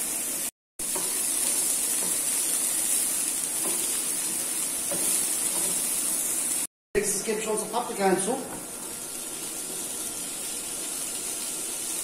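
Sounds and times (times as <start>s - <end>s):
vegetables sizzling in frying pan: 0.0s - 6.7s, 7.6s - 12.0s.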